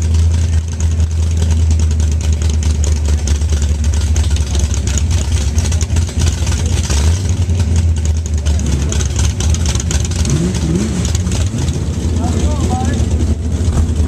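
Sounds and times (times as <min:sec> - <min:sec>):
engine low drone: 0:00.0 - 0:14.0.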